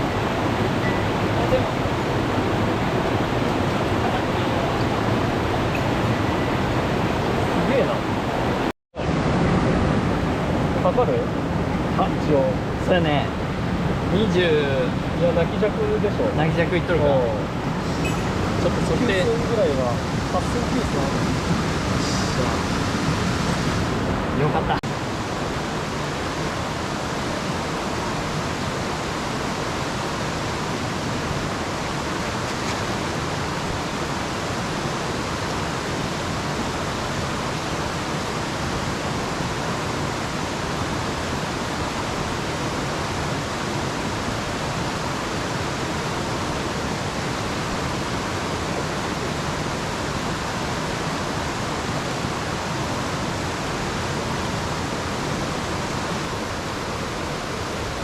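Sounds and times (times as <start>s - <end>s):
rushing mountain stream: 0.0s - 58.0s.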